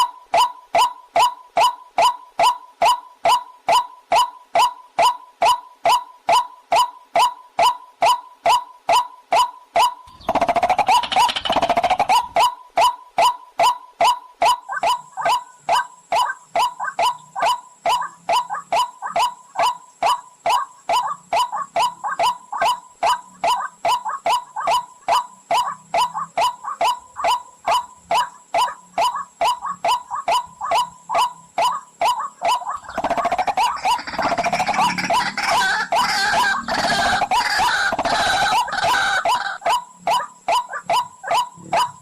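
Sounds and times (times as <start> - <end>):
recorded bird call: 0.0 - 42.0.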